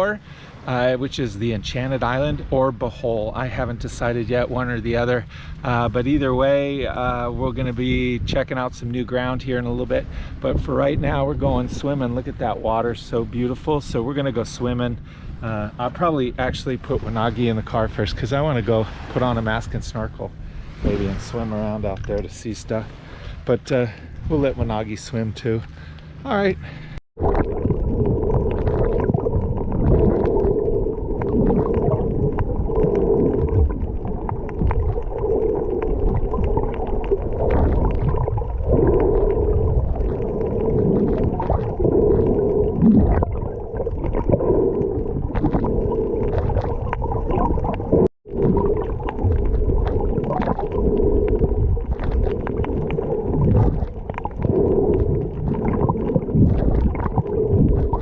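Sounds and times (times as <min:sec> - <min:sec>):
underwater low rumble: 0:00.0 - 0:58.0
water gurgling and bubbles: 0:00.0 - 0:58.0.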